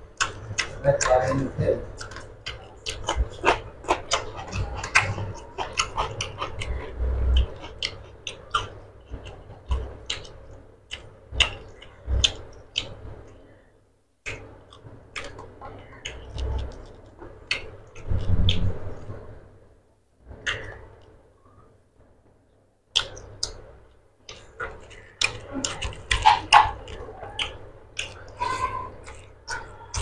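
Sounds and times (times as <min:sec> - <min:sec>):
wet chewing and lip smacking: 0:00.0 - 0:13.4, 0:14.2 - 0:19.2, 0:20.4 - 0:21.2, 0:22.9 - 0:30.0.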